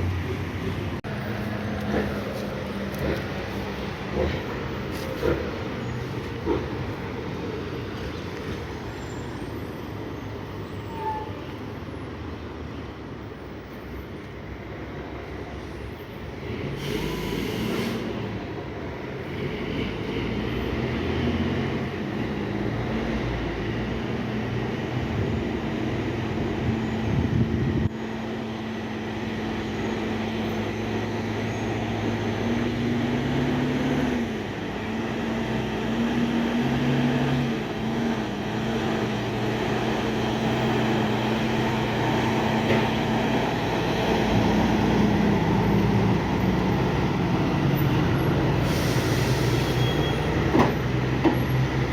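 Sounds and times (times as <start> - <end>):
truck diesel engine droning: 0.0 - 11.6, 16.4 - 51.9.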